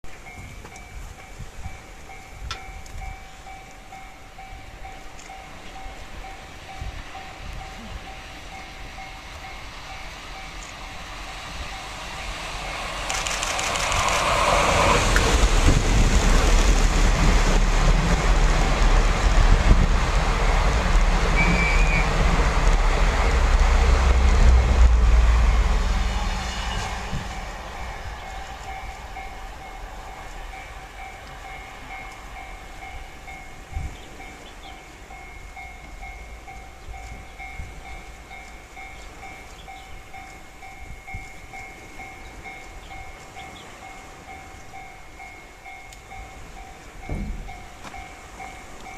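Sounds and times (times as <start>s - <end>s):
diesel locomotives rumbling: 0.0s - 48.9s
train wheels on rails: 0.0s - 48.9s.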